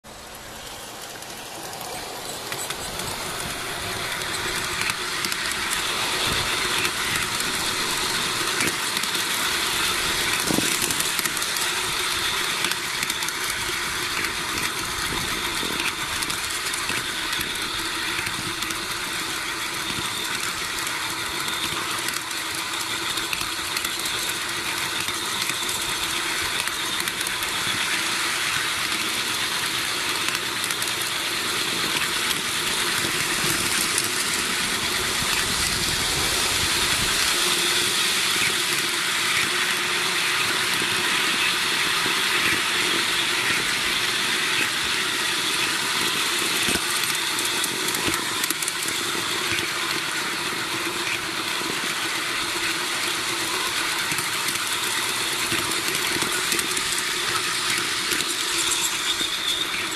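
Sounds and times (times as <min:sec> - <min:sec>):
model train wheels rattling on rails: 0:00.0 - 0:59.9.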